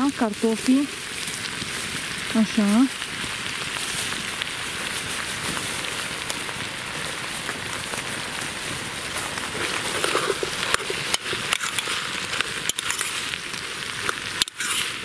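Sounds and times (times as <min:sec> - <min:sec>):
fat sizzling in a pot: 0:00.0 - 0:15.0
wood fire crackling: 0:00.0 - 0:15.0.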